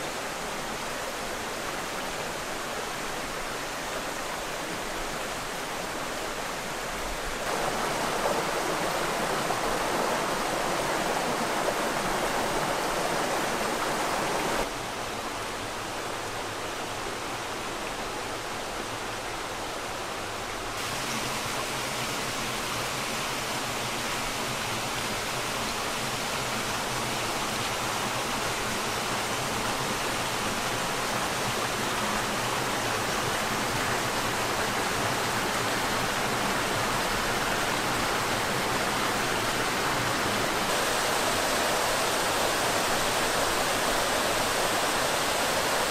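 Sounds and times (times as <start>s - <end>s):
creek water rushing over stones: 0.0s - 45.9s.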